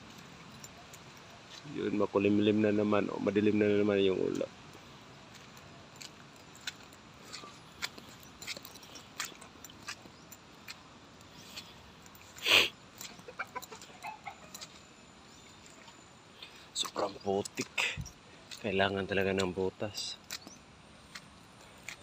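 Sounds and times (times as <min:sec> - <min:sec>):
footsteps squelching in mud: 0:04.3 - 0:22.0.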